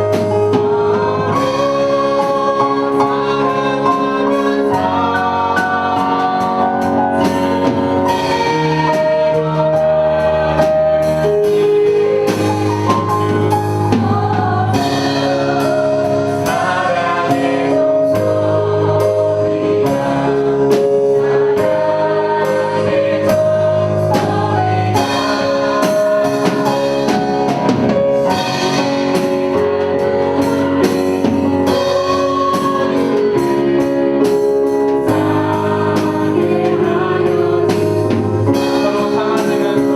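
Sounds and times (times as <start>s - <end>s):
instrumental accompaniment: 0.0s - 39.9s
steady drum beat: 0.0s - 39.9s
voices singing together: 0.0s - 39.9s.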